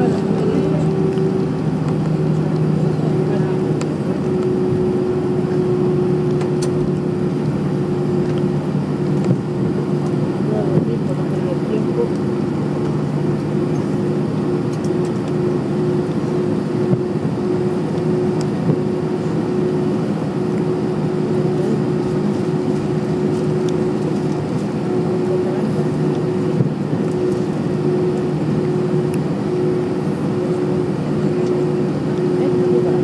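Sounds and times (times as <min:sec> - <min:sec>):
airliner cabin hum: 0:00.0 - 0:33.0.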